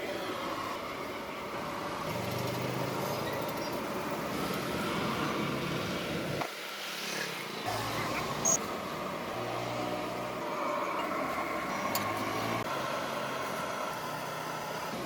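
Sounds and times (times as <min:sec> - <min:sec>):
vehicle engine humming: 0:00.0 - 0:06.4, 0:07.4 - 0:15.0
street traffic: 0:00.0 - 0:15.0.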